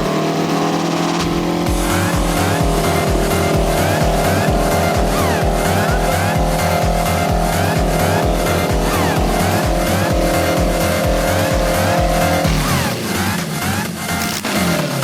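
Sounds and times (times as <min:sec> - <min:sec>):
held synth tones: 0:00.0 - 0:13.7
electronic dance music: 0:00.0 - 0:15.0
heavy bass beat: 0:00.0 - 0:15.0.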